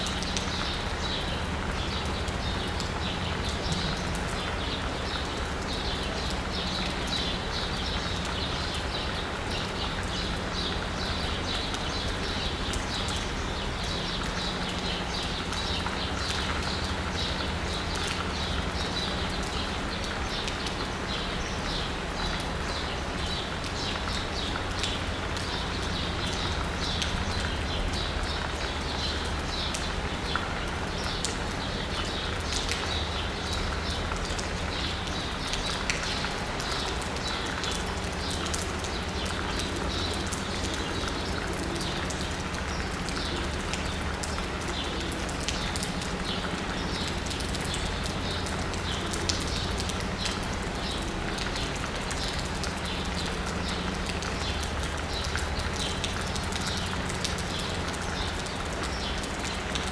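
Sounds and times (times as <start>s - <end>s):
rain on asphalt and rooftops: 0.0s - 59.9s
raindrops dripping: 0.0s - 59.9s.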